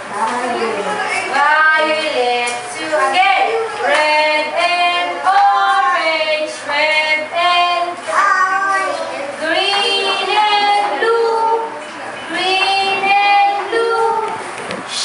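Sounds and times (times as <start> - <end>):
woman and children singing: 1.3 - 14.6.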